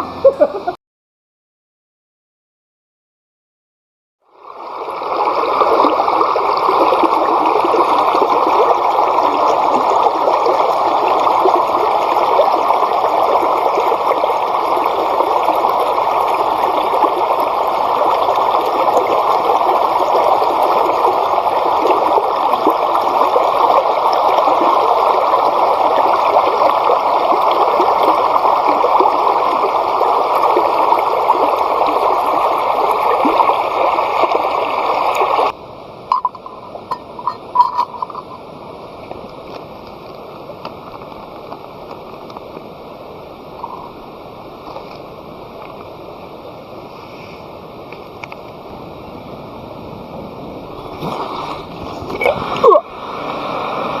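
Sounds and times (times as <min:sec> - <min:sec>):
flowing water rushing: 0:04.2 - 0:54.0.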